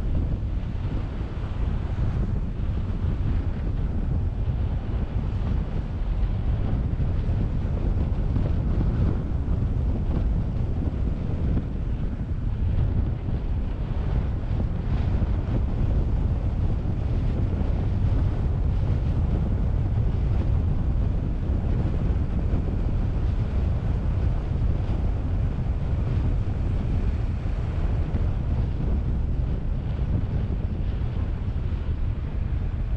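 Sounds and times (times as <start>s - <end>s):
wind rush on microphone: 0.0s - 32.9s.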